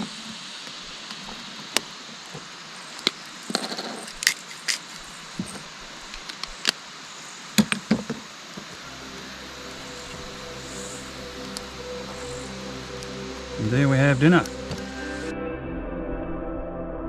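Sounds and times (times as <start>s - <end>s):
faint steady hiss: 0.0s - 15.3s.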